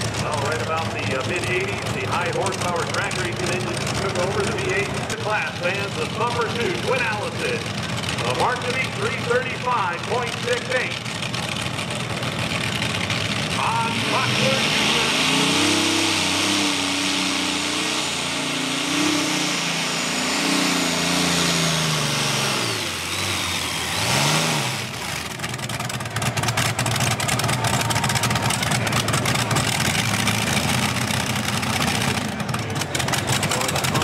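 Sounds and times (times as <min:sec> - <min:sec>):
tractor engine rough crackle: 0:00.0 - 0:15.1, 0:16.1 - 0:34.0
pulling tractor engine under load: 0:00.0 - 0:34.0.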